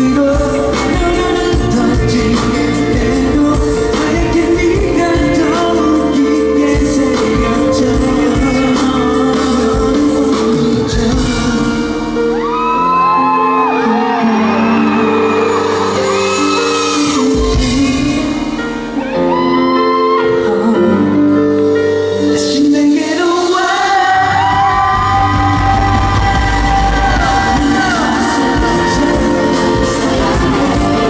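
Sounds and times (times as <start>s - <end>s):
amplified band playing: 0.0s - 31.0s
man singing into microphone: 0.0s - 31.0s.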